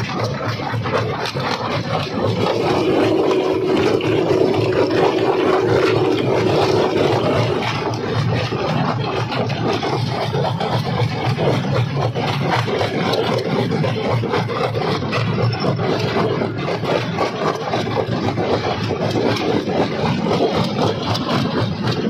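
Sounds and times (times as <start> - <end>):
crusher grinding and cracking stone: 0.0 - 22.0
low machine drone: 0.0 - 22.0.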